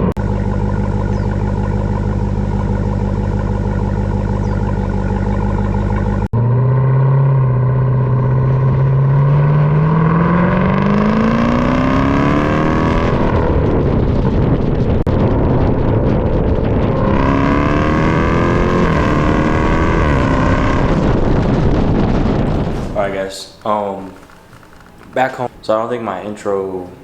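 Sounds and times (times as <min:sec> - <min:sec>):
car engine accelerating hard: 0:00.0 - 0:23.2.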